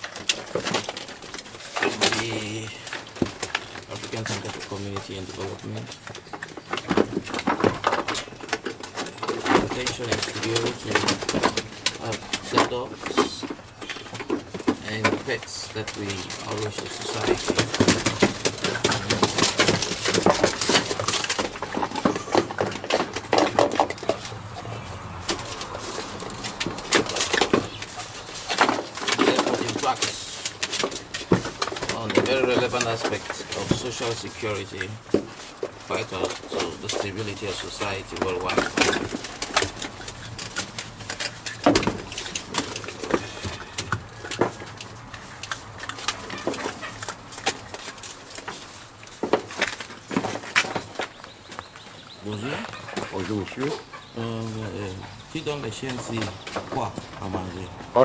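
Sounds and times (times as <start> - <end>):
dogs eating from bowls: 0.0 - 58.0.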